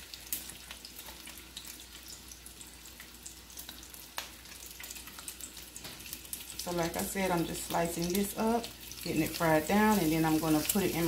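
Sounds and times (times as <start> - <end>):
fat crackling and popping: 0.0 - 11.0
meat sizzling in skillet: 0.0 - 11.0.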